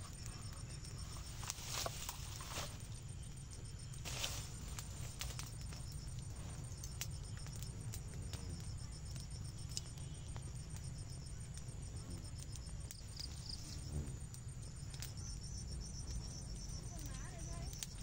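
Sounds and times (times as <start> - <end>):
burning brush crackling: 0.0 - 18.0
insect chirring: 0.0 - 18.0.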